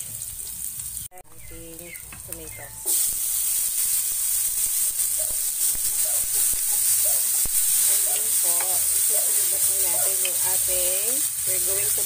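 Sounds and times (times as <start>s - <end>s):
food sizzling in a hot pan: 0.0s - 12.0s.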